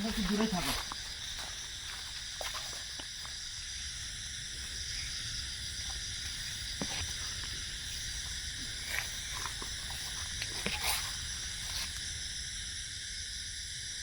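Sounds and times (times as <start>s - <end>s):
high-pitched outdoor hiss: 0.0s - 14.0s.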